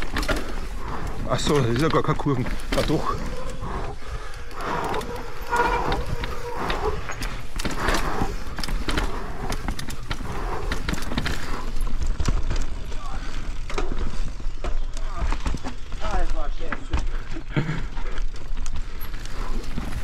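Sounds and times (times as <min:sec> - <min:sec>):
bike knocking and rattling: 0:00.0 - 0:20.0
tyres rumbling over dirt: 0:00.0 - 0:20.0.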